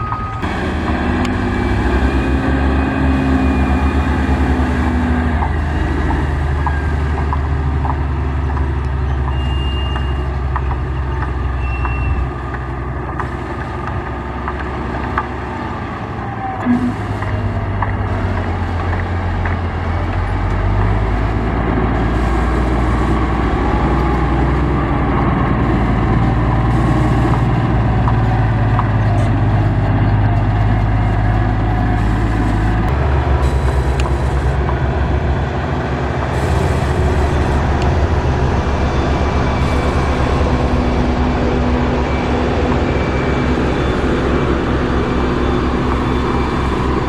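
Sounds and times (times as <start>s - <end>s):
diesel machinery engine running: 0.0s - 47.0s.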